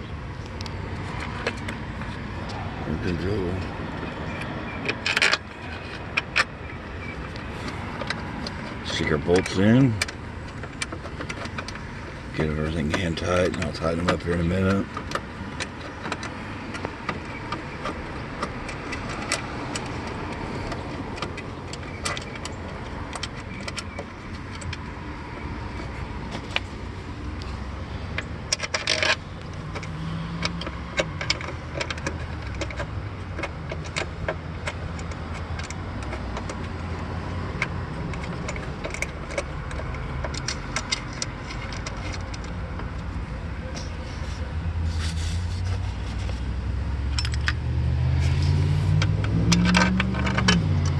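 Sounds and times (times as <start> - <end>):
metal bolts and tools clinking: 1.2 - 26.7, 27.4 - 44.3, 47.1 - 50.9.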